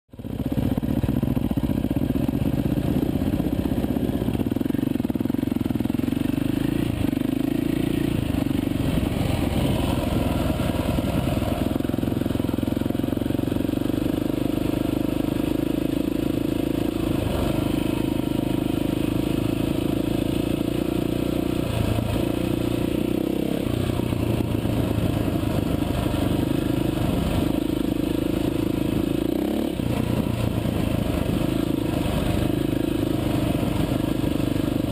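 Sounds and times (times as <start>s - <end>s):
dirt bike engine revving: 0.6s - 34.9s.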